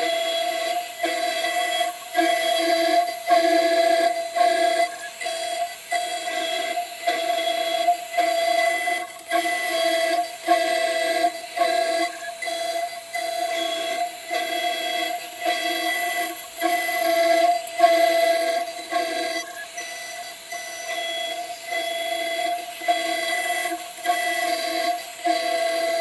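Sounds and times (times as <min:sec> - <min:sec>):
router machine whine: 0:00.0 - 0:26.0.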